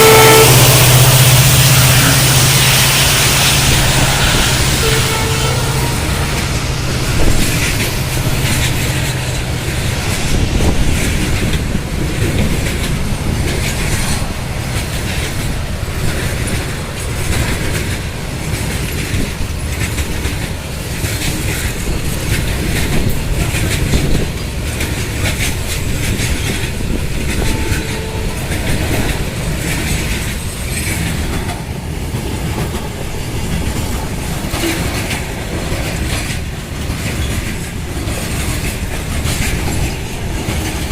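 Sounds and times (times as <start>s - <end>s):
train wheels rumbling on rails: 0.0s - 40.9s
wheels clickety-clack on rail joints: 0.0s - 40.9s.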